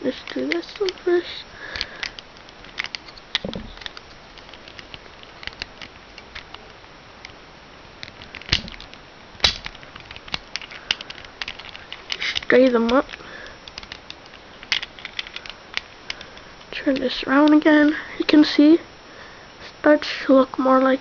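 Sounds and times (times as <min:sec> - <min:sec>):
plastic cube pieces clicking: 0:00.1 - 0:07.4, 0:08.0 - 0:18.3.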